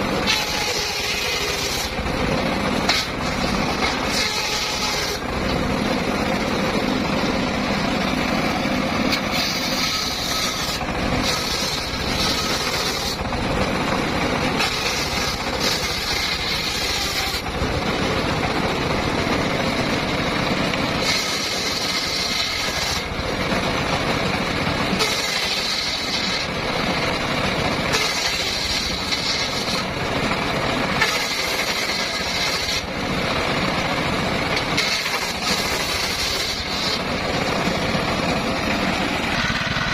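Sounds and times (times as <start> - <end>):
engine-driven circular saw cutting wood: 0.0 - 39.9.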